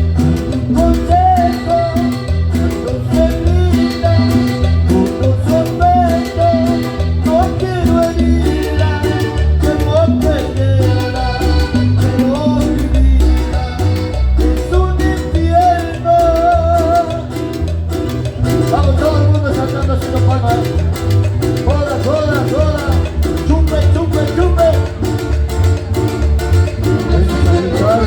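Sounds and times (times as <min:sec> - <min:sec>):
live band playing latin dance music: 0:00.0 - 0:28.0.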